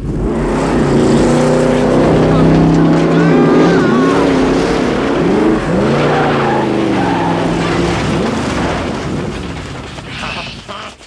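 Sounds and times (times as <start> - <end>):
truck engine revving: 0.0 - 10.8.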